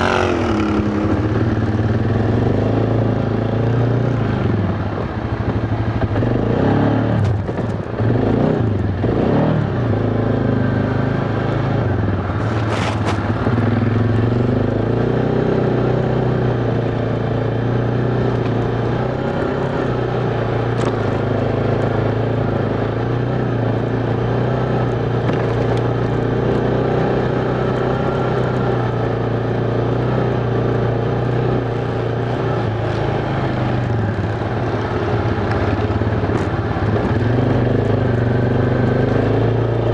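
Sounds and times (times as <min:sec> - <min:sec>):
atv engine under load: 0:00.0 - 0:39.9.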